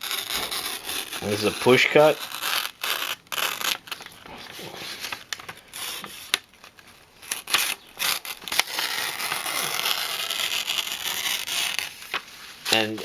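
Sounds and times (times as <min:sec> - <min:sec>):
knife cutting paper: 0:00.0 - 0:06.4, 0:07.3 - 0:12.9
paper rustling and crackling: 0:00.0 - 0:13.0.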